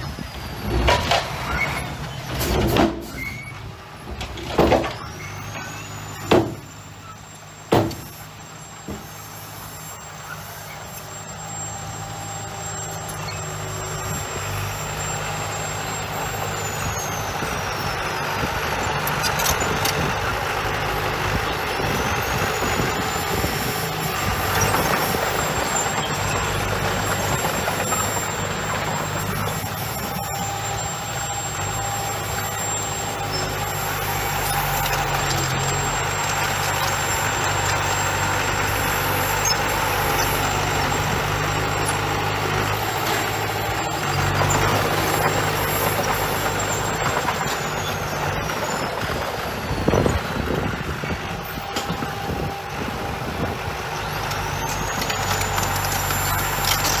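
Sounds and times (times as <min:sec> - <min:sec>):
diesel construction machinery running: 0:00.0 - 0:57.0.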